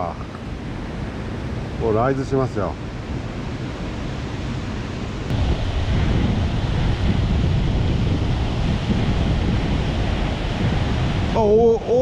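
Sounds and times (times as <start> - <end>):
stream water rushing: 0.0 - 12.0
wind buffeting microphone: 0.0 - 12.0.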